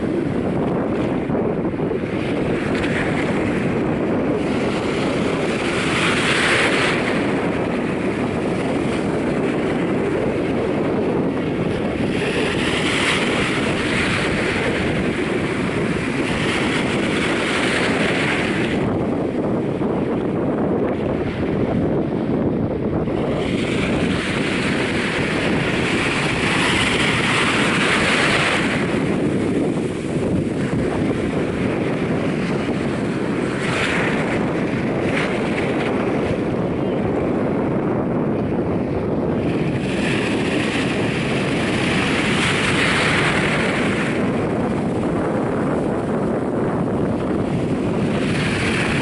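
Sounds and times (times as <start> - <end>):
wind rumble on microphone: 0.0 - 49.0
small waves washing over sand: 2.0 - 19.3, 23.1 - 37.1, 39.4 - 49.0.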